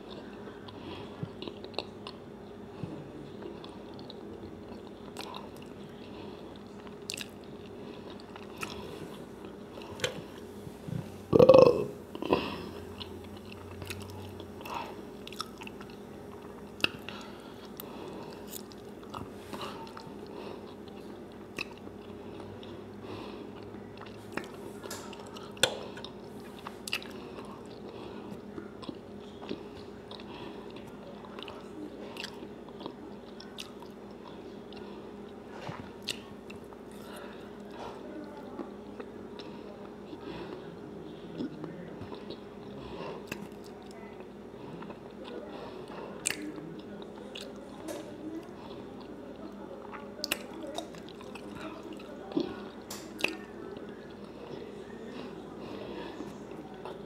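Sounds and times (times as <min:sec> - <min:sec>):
person chewing food: 0:00.0 - 0:57.0
steady low hum: 0:00.0 - 0:57.0.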